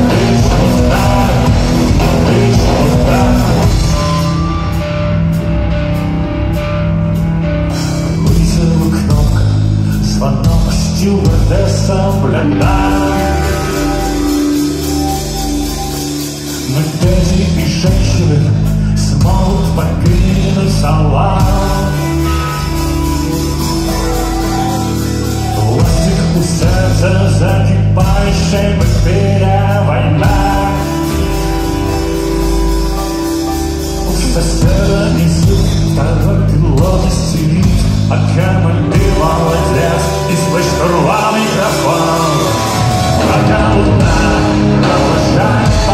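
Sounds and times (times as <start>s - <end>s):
bass guitar: 0.0s - 45.9s
electric guitar: 0.0s - 45.9s.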